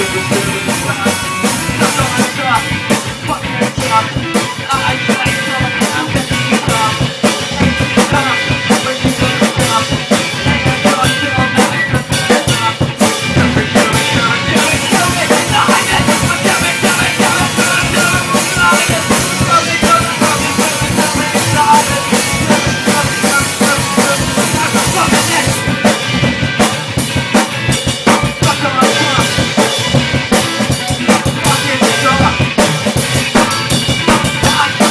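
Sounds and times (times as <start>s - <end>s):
drum kit beat: 0.0s - 34.9s
instrumental band music: 0.0s - 34.9s.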